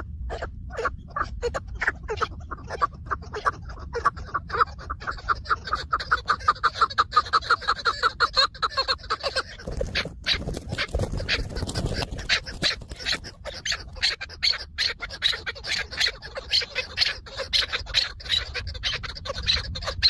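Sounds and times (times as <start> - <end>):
partridge rapid clucking call: 0.0 - 20.0.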